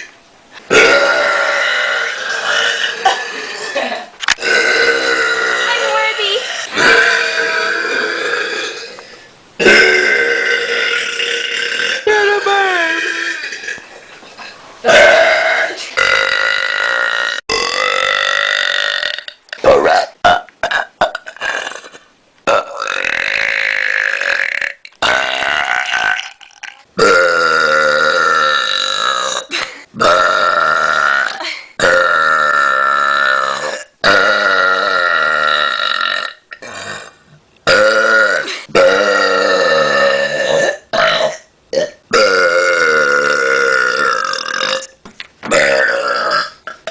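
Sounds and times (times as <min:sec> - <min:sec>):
person burping: 0:00.7 - 0:13.8, 0:14.4 - 0:46.9.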